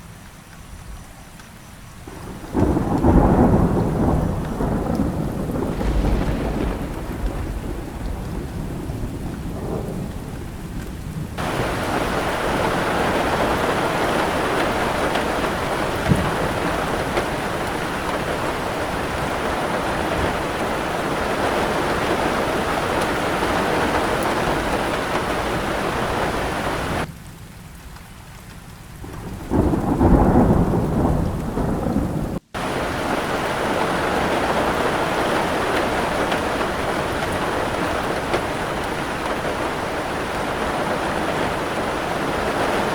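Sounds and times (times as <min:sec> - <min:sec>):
heavy rain: 0:00.0 - 0:42.9
rolling thunder: 0:02.1 - 0:27.1, 0:29.0 - 0:42.9.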